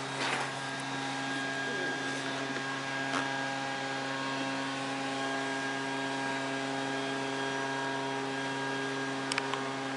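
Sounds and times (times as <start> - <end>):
motor humming: 0.0 - 9.9.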